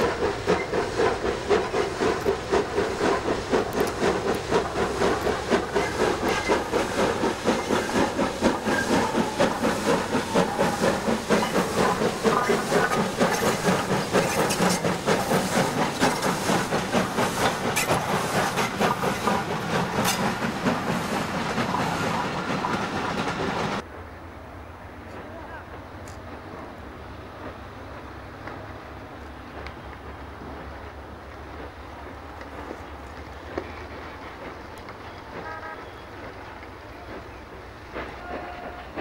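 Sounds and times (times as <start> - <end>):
wheels clicking over rail joints: 0.0 - 23.8, 24.9 - 39.0
steam locomotive exhaust beating: 0.0 - 39.0.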